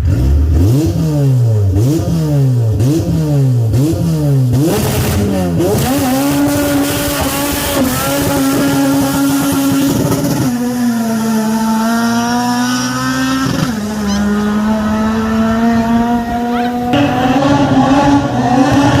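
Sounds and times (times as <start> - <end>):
car engine revving through gears: 0.0 - 19.0.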